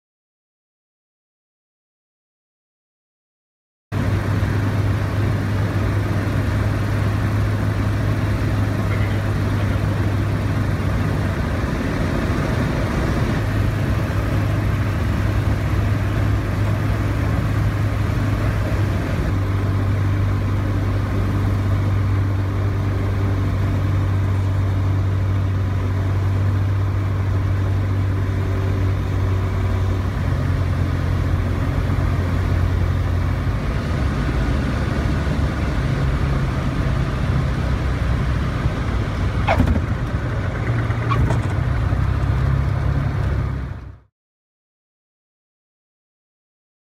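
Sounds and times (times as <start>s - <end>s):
aircraft engine and propeller droning: 3.9s - 44.0s
higher engine tone: 3.9s - 44.1s.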